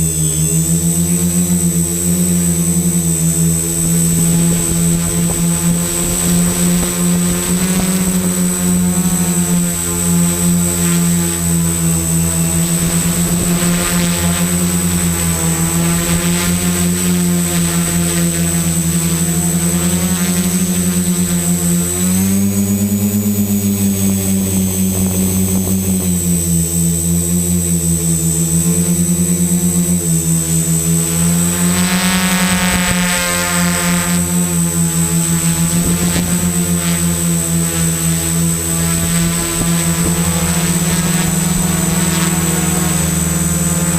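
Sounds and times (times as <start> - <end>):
high-pitched whine: 0.0 - 43.9
quadcopter motors humming: 0.0 - 43.9.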